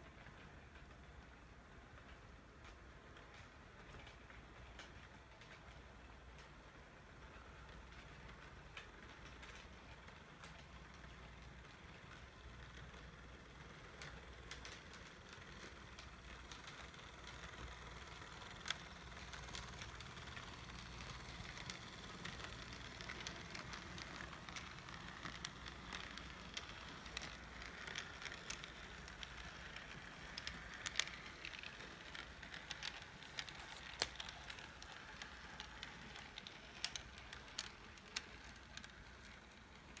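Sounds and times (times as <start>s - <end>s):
wheels clicking over rail joints: 0.0s - 40.0s
model train humming: 5.8s - 40.0s.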